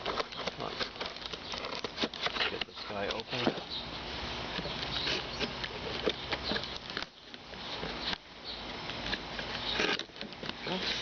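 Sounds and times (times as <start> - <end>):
small clicks and scrapes: 0.0 - 3.6, 4.5 - 11.0
cardboard rustling and crinkling: 0.0 - 3.7, 4.4 - 11.0.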